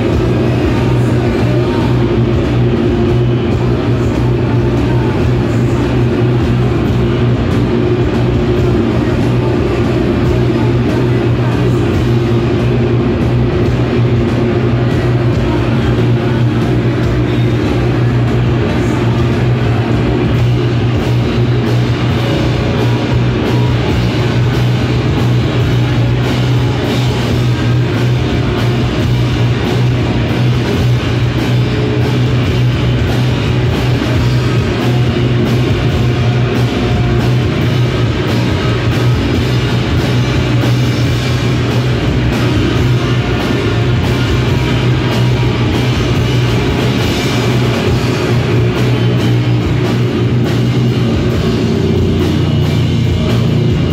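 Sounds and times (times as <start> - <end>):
distorted electric guitar: 0.0 - 53.9
drum kit: 0.0 - 53.9
steady low drone: 0.0 - 53.9.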